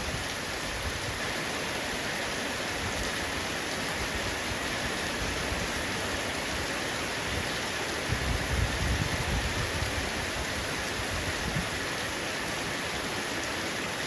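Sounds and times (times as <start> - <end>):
heavy rain on a roof: 0.0 - 14.0.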